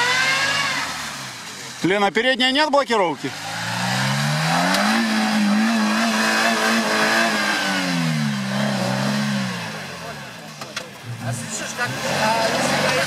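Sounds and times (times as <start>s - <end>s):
engine revving hard: 0.0s - 1.8s, 3.0s - 10.4s, 11.2s - 13.0s.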